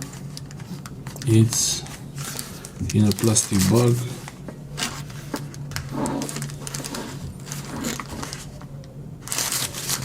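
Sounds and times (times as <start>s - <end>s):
plastic packaging crinkling: 0.0s - 10.0s
steady low hum: 0.0s - 10.0s.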